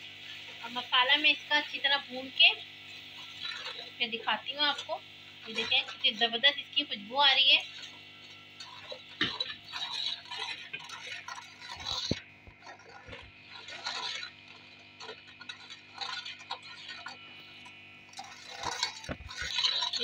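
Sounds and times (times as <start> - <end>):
masala frying in oil: 0.0 - 20.0
metal spoon scraping a pot: 0.3 - 20.0.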